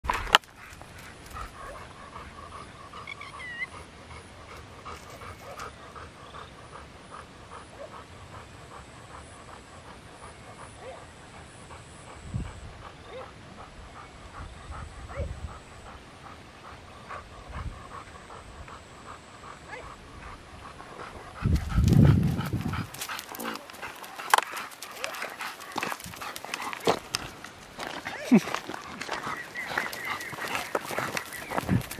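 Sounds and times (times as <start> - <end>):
dog panting: 0.1 - 31.9.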